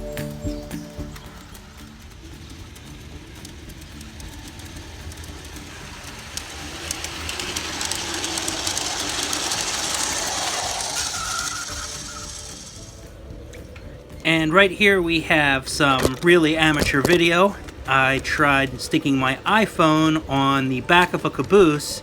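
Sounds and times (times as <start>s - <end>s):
model train running on track: 0.0s - 22.0s
wheels clicking over rail joints: 0.0s - 22.0s.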